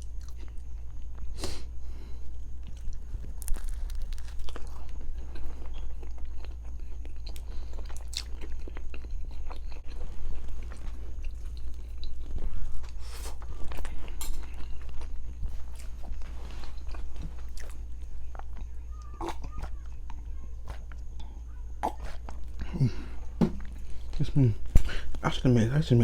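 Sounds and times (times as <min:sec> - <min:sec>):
person chewing: 0:00.0 - 0:01.7, 0:02.3 - 0:25.2.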